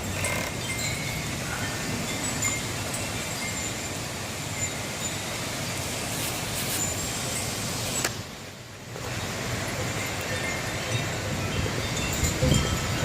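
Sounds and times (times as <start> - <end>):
wind chime tinkling: 0.0 - 5.8, 6.4 - 8.1, 9.6 - 13.0
wind gusting across microphone: 0.0 - 13.0.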